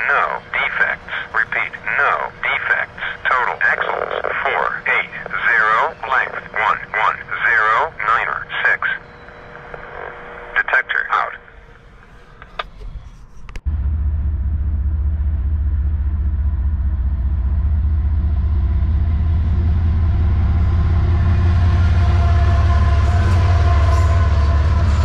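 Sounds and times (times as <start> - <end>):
diesel locomotive rumble: 0.0 - 25.0.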